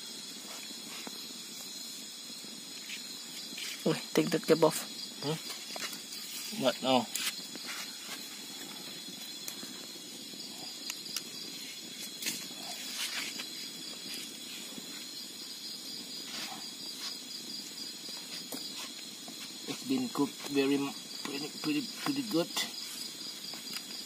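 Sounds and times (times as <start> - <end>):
crickets and insects chirring: 0.0 - 24.0.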